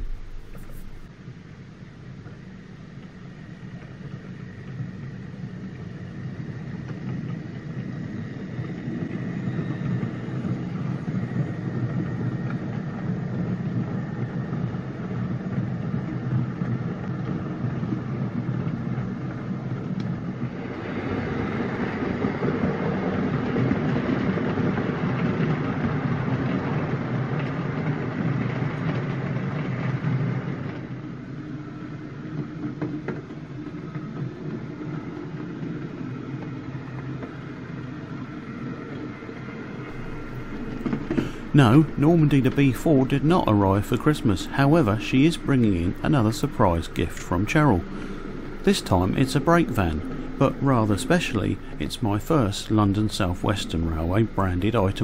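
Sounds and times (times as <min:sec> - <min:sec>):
model train rolling on track: 0:03.0 - 0:55.0.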